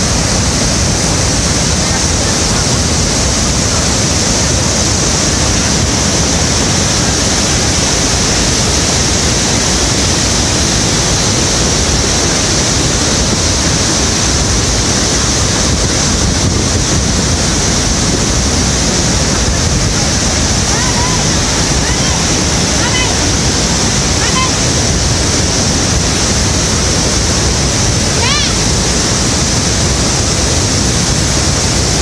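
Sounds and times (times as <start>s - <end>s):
waterfall rushing onto rocks: 0.0s - 32.0s.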